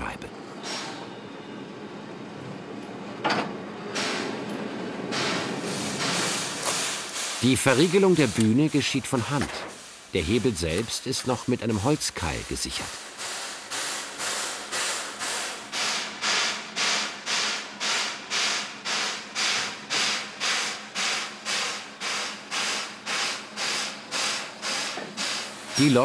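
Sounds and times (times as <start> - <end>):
steam locomotive hissing puffs: 0.6 - 1.4, 3.8 - 26.0.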